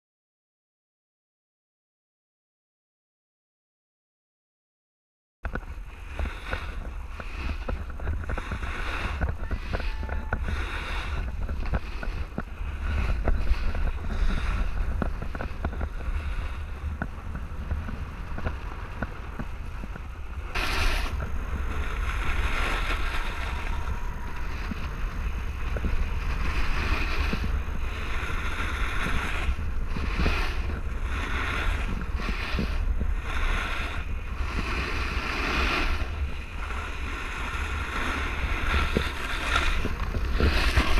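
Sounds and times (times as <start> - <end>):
wind rumbling on microphone: 5.4 - 40.9
snowboard scraping over snow: 5.5 - 40.9.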